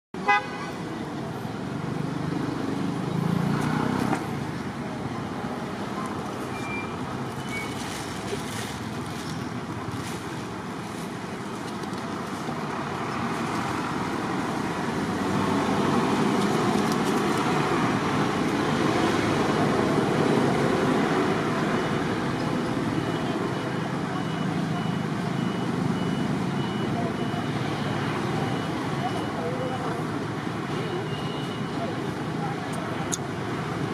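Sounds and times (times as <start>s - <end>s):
road traffic rumble: 0.2s - 33.9s.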